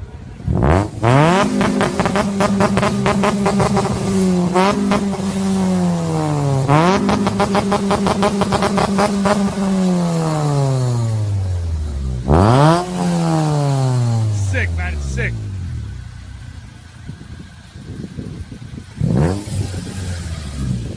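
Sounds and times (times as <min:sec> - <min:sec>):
car exhaust buzzing as engine revs: 0:00.4 - 0:14.7, 0:15.3 - 0:20.9.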